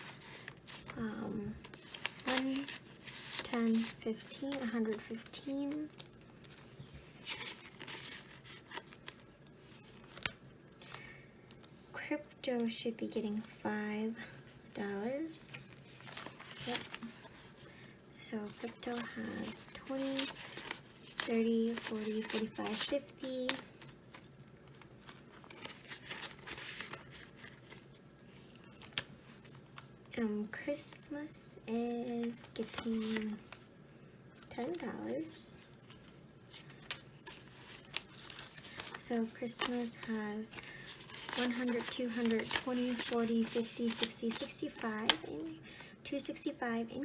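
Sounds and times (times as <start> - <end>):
paper banknotes rustling: 0.0 - 11.1, 15.6 - 17.8, 18.4 - 30.0, 32.0 - 33.7, 34.4 - 46.5.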